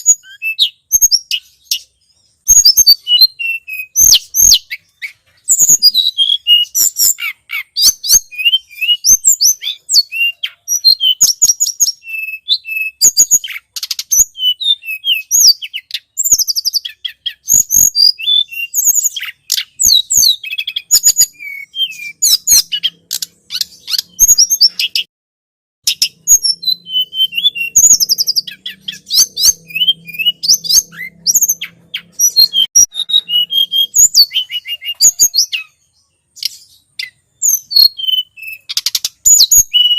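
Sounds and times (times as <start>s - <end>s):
bird chirps and trills: 0.0s - 25.1s, 25.8s - 39.9s.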